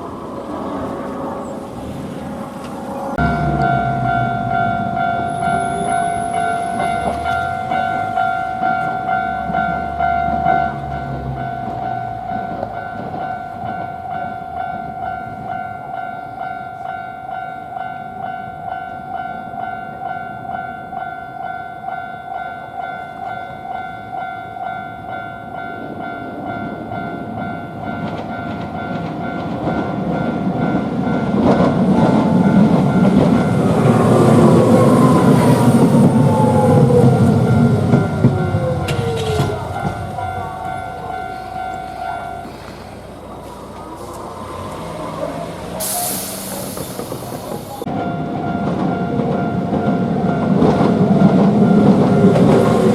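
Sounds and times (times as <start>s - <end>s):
tram passing: 0.0s - 52.9s
level crossing warning bell: 2.3s - 52.9s.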